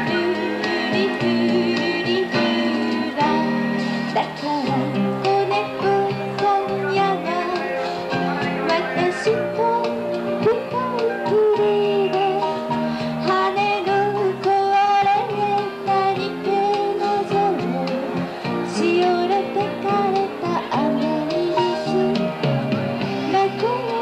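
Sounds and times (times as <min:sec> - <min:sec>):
guitar accompaniment: 0:00.0 - 0:24.0
woman singing into microphone: 0:00.0 - 0:24.0.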